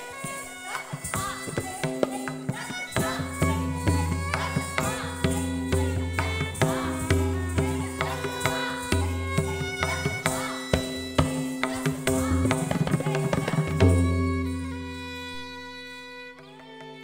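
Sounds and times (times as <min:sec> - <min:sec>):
tabla strokes: 0:00.2 - 0:17.0.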